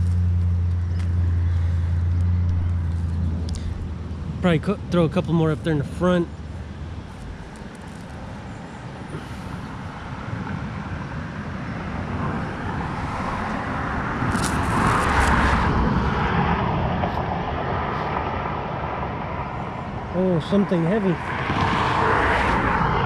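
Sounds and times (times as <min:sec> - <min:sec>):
road vehicle passing: 0:00.0 - 0:23.0.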